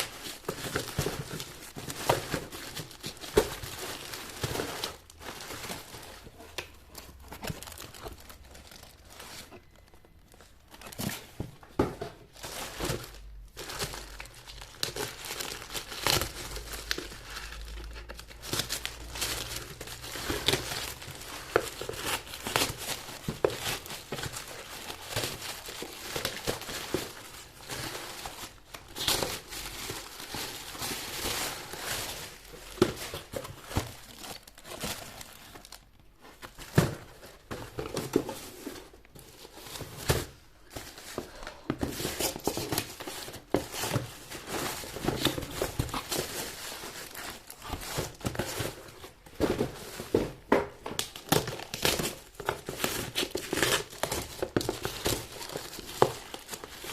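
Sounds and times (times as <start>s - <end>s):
packaging crinkling and rustling: 0.0s - 56.9s.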